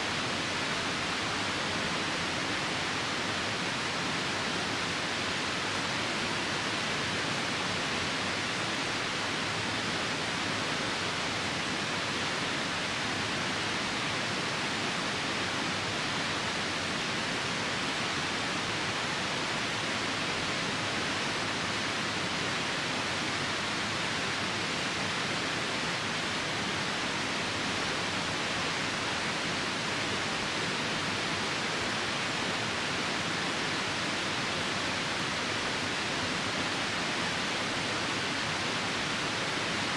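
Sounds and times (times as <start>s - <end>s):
river rushing in the rain: 0.0s - 39.9s.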